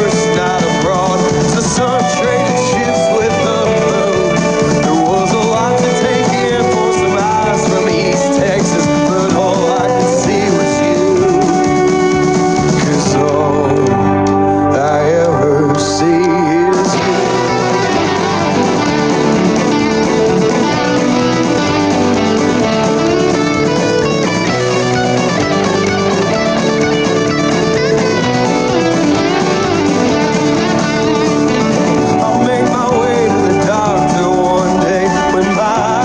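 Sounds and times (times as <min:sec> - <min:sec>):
guitar music: 0:00.0 - 0:36.0.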